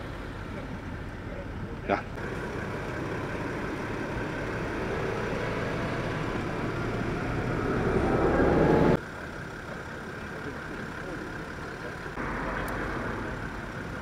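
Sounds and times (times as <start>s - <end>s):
heavy vehicle engine humming: 0.0s - 14.0s.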